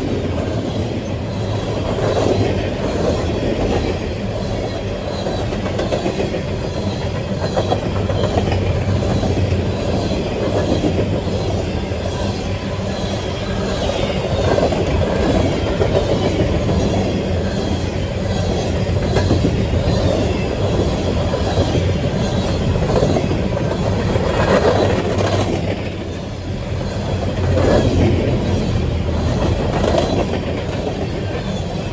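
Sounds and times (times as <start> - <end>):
train wheels rolling on rails: 0.0 - 31.9.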